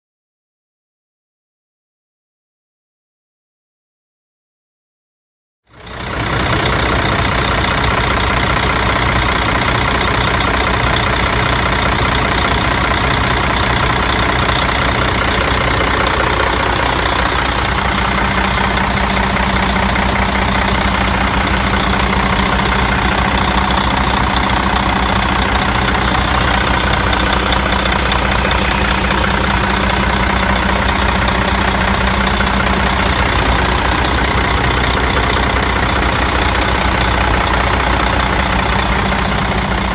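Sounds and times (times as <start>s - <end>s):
diesel engine idling: 5.7s - 39.9s.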